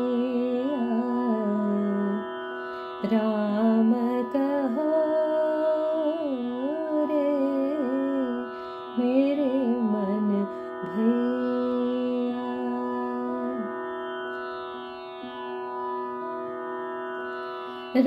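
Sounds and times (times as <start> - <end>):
devotional melody over drone: 0.0 - 18.0.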